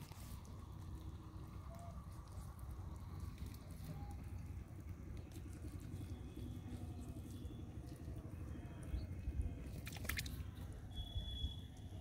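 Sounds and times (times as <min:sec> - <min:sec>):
wet crackling and squishing: 0:00.0 - 0:10.9.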